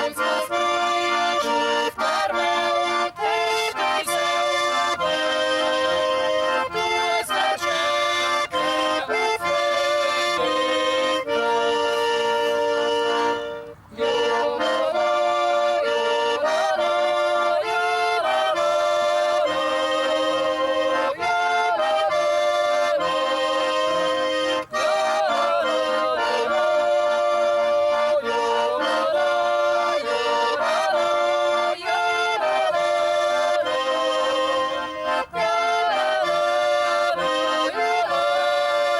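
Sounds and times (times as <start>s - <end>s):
accordion folk tune: 0.0s - 38.9s.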